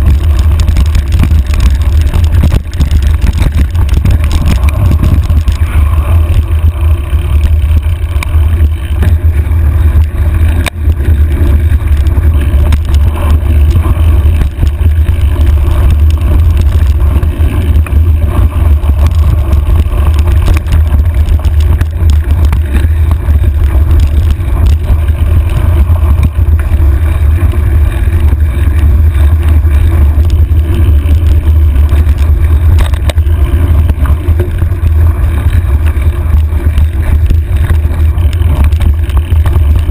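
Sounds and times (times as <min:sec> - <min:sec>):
trail riding rumble: 0:00.0 - 0:39.9.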